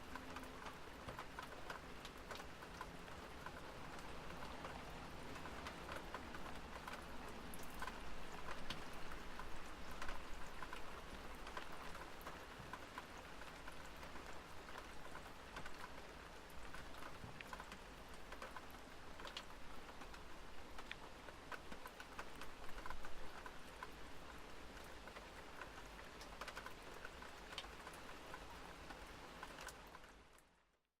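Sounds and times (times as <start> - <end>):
rain pattering on hard surfaces: 0.0 - 30.8.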